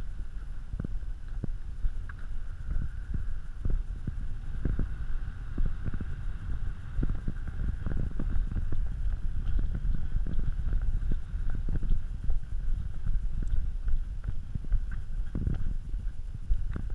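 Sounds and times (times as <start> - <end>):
gusty wind on microphone: 0.0 - 16.9.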